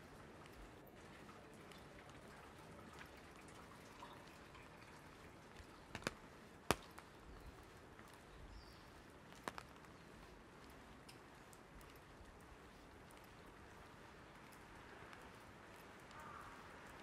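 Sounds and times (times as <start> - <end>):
light rain hiss: 0.0 - 17.0
raindrops ticking on umbrella: 0.0 - 17.0.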